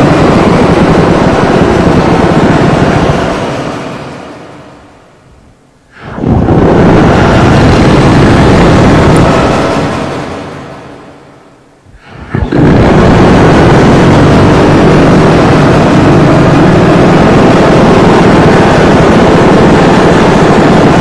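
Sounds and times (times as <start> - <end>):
distorted harsh noise: 0.0 - 21.0.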